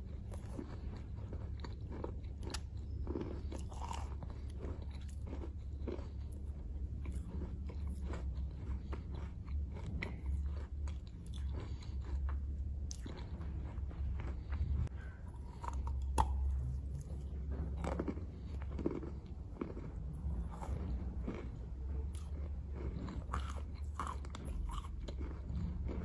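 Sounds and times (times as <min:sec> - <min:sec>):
chewing crunchy chalk: 0:00.0 - 0:26.0
steady low hum: 0:00.0 - 0:26.0.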